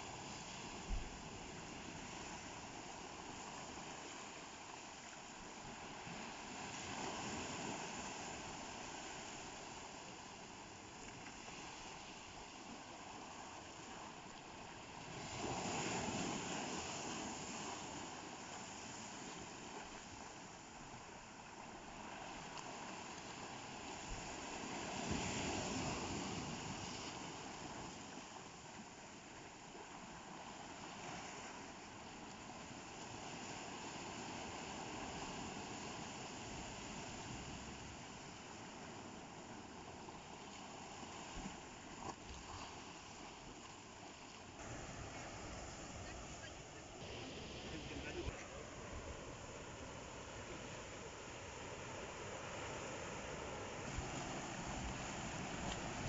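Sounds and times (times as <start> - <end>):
ocean surf: 0.0 - 56.0.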